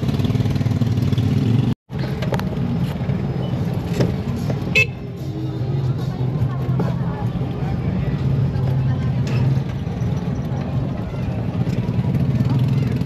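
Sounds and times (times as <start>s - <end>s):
motor tricycle engine drone: 0.0s - 13.0s.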